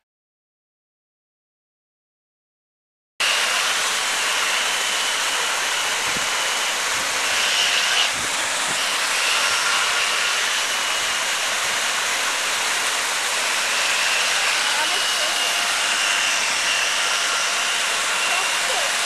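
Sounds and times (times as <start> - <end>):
rc speedboat motors hissing: 3.2 - 19.0
thin high motor whine: 3.2 - 19.0.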